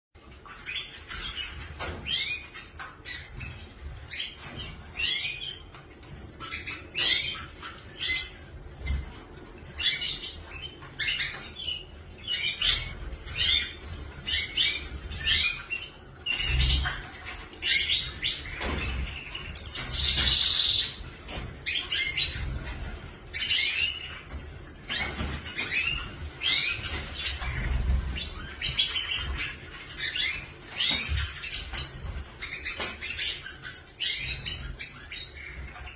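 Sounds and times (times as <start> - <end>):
canaries chirping: 0.2 - 35.9.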